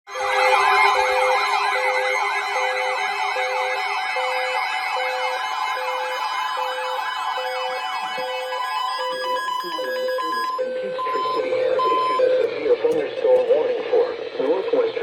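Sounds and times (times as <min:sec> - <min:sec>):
electronic yelp siren: 0:00.1 - 0:15.0
steady background tones: 0:00.2 - 0:15.0
low electronic beep: 0:02.5 - 0:15.0.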